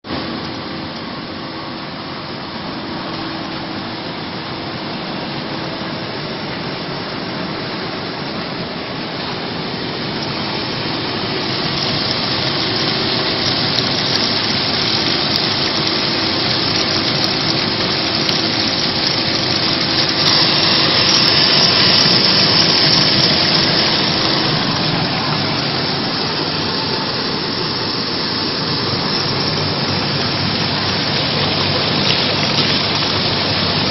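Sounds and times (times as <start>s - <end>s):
motor hum: 0.1s - 33.9s
water rushing and splashing: 0.1s - 33.9s.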